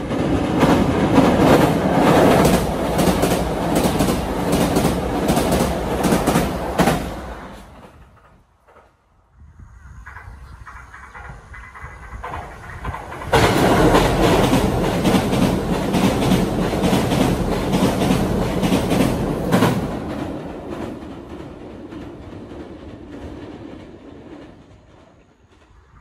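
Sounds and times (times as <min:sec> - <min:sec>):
train wheels clacking on bridge: 0:00.0 - 0:09.2, 0:09.8 - 0:26.0.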